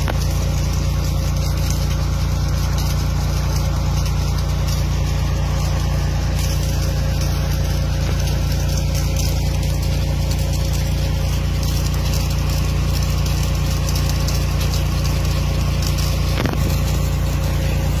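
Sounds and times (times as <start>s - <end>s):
engine humming: 0.0s - 18.0s
water spraying from sprinklers: 0.0s - 18.0s.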